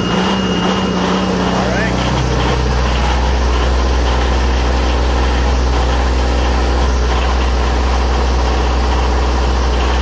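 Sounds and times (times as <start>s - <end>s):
diesel generator running: 0.0s - 10.0s.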